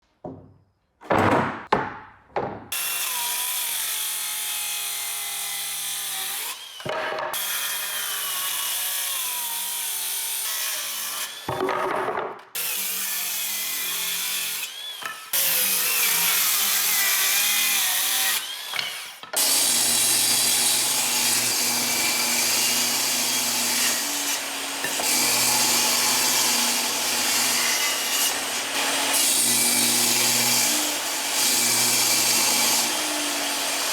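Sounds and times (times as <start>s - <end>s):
power tool cutting wood: 2.7s - 11.6s, 12.6s - 33.9s.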